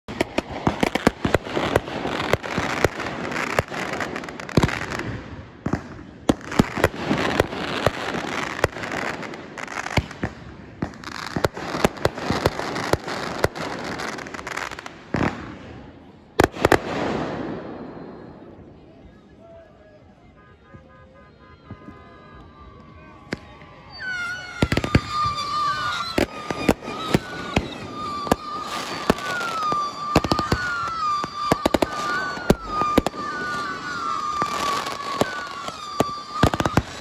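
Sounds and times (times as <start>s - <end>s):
fireworks bangs and pops: 0.0s - 18.7s, 20.7s - 37.0s
fireworks crackling: 0.0s - 37.0s.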